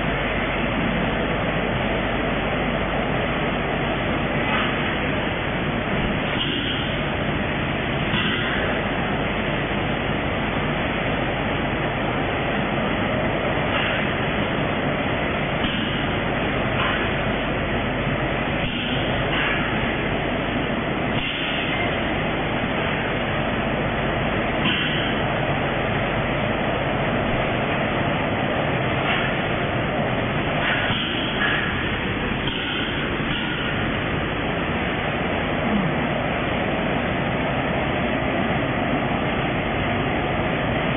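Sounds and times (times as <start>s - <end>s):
packing machines clattering and humming: 0.0s - 40.9s.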